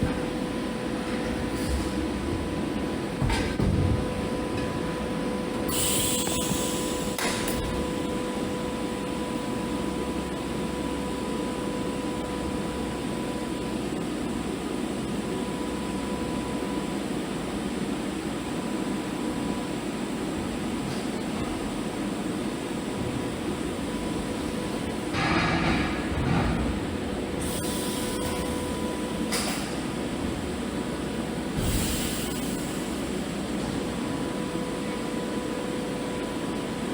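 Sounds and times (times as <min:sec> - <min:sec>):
welding arc hiss and hum: 0:00.0 - 0:36.9.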